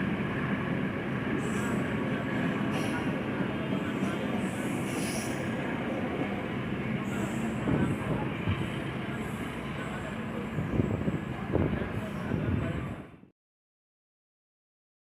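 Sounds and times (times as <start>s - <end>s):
railway cars rumbling past: 0.0s - 13.3s.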